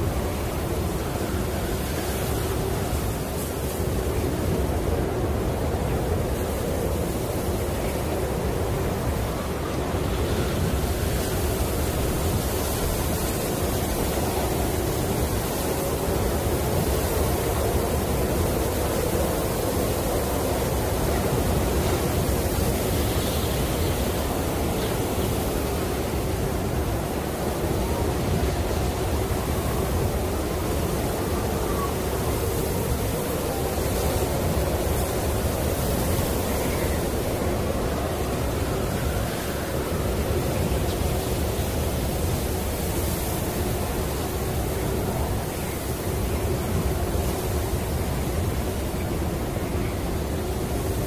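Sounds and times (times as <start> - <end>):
snowstorm wind blowing: 0.0 - 51.0.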